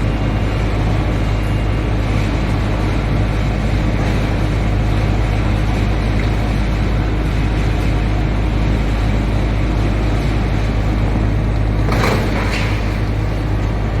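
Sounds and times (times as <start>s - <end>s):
wood chipper droning: 0.0s - 14.0s.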